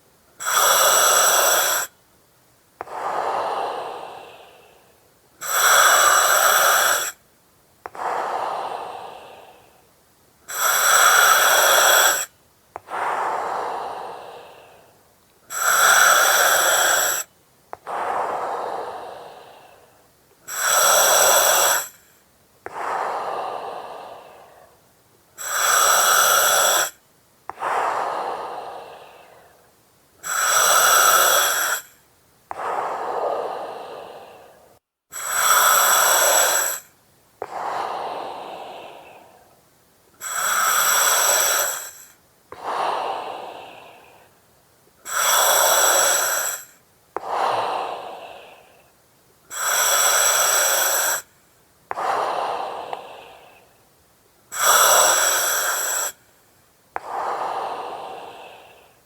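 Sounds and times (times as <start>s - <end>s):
breathing through oxygen mask: 0.4s - 1.9s, 2.8s - 7.2s, 7.9s - 9.8s, 10.5s - 24.8s, 25.4s - 39.6s, 40.2s - 44.4s, 45.0s - 48.9s, 49.5s - 51.3s, 51.9s - 53.7s, 54.5s - 56.3s, 57.0s - 59.0s.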